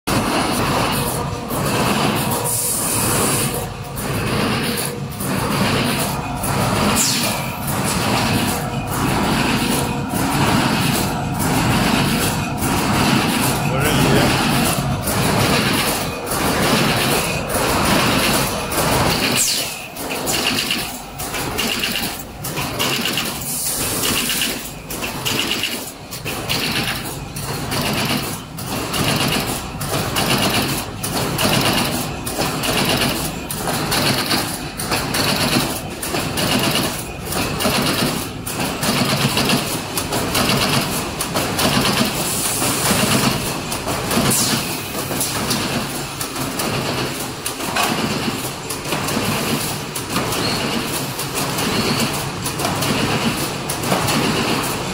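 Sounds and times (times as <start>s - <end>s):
stitching machine clatter: 0.1s - 54.9s.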